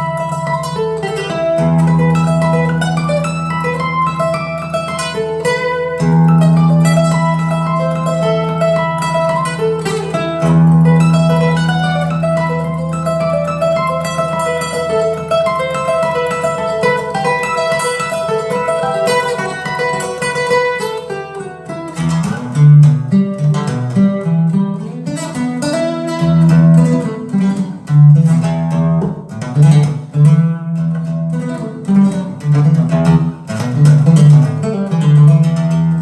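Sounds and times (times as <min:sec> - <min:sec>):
plucked guitar notes: 0:00.0 - 0:36.0
strummed guitar: 0:00.0 - 0:36.0.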